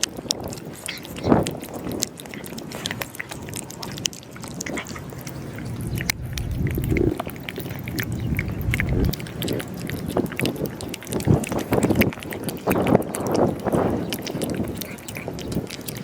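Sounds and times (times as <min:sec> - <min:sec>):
cat crunching food: 0:00.0 - 0:16.0.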